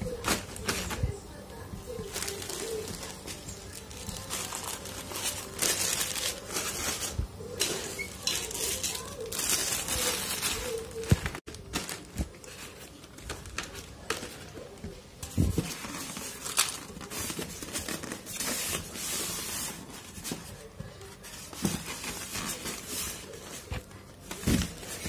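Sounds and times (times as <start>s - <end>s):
plastic bags crinkling: 1.9s - 25.0s.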